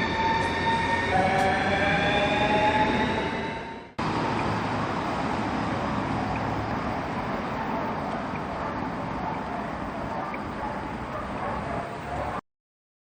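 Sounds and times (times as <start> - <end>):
road traffic rumble: 0.0 - 12.4.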